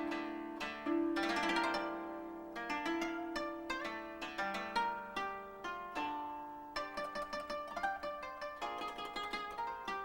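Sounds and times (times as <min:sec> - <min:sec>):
koto plucked notes: 0:00.0 - 0:10.0.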